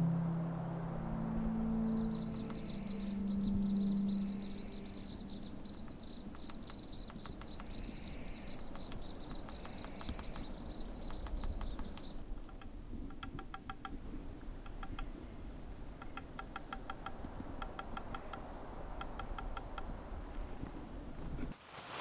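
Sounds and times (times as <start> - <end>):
low steady hum: 0.0 - 21.6
chickadees calling: 0.7 - 14.0, 14.6 - 21.6.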